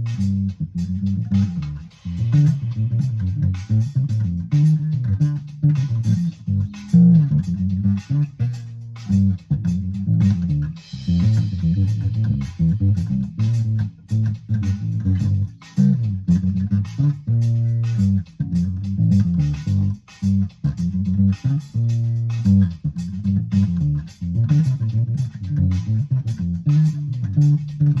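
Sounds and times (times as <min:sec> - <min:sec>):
drum kit steady beat: 0:00.0 - 0:28.0
funk electric bass line: 0:00.0 - 0:28.0.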